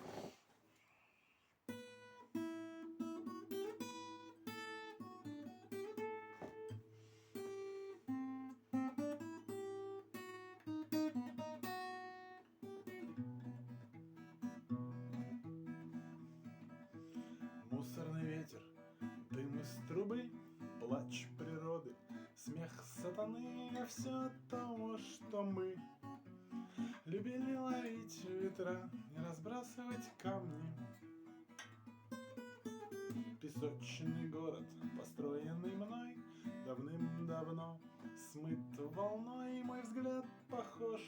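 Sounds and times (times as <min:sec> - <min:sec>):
acoustic guitar picking: 0:01.7 - 0:41.0.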